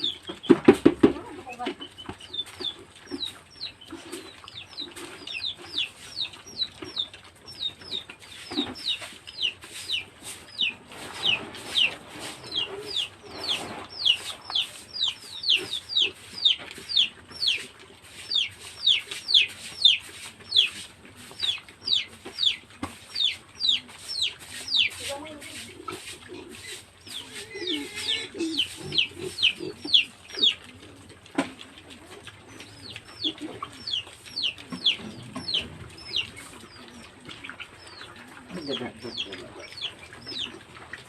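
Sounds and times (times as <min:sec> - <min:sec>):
chicks peeping: 0:00.0 - 0:41.0.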